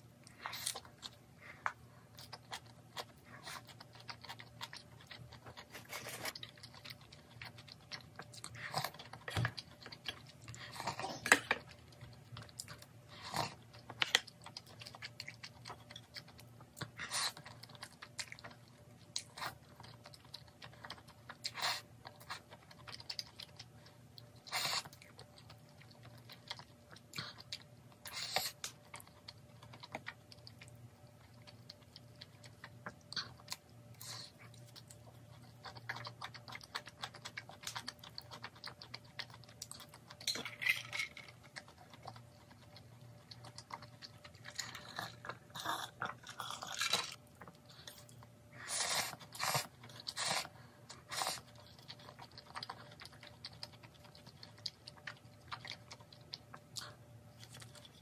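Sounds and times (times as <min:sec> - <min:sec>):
chewing with wet smacks: 0:00.0 - 0:58.0
faint steady hum: 0:00.0 - 0:58.0.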